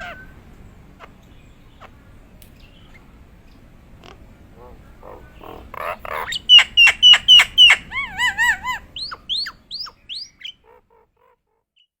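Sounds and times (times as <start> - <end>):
starling calling and whistling: 0.0 - 3.1, 4.6 - 11.9.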